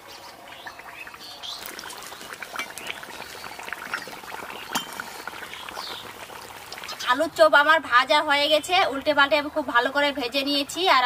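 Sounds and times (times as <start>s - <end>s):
oil sizzling and crackling: 0.0s - 9.9s.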